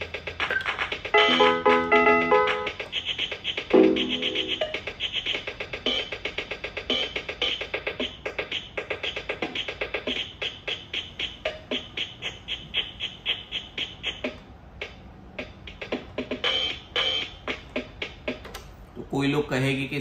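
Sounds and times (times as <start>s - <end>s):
toy keyboard drum patterns: 0.0s - 18.7s.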